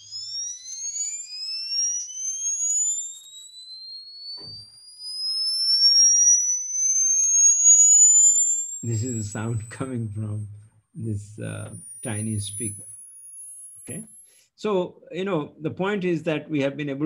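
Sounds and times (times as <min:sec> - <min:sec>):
pure tone rising in pitch: 0:00.0 - 0:14.3.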